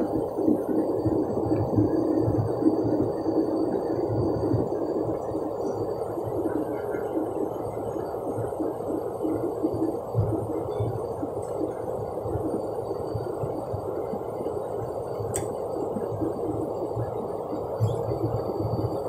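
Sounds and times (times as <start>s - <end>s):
airliner cabin engine rush: 0.0s - 19.0s.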